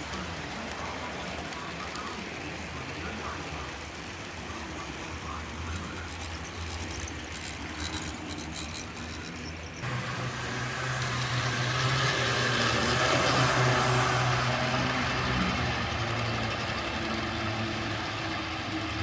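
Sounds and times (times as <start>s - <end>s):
model train motor hum: 0.0s - 19.0s
train wheels on track: 0.0s - 19.0s.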